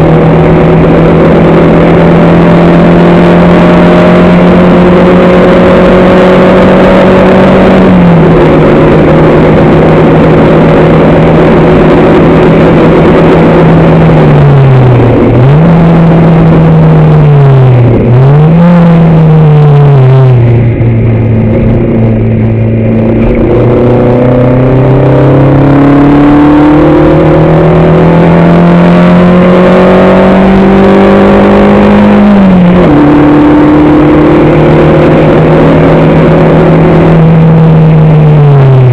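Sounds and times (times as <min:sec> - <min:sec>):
racing engine revving: 0:00.0 - 0:38.9.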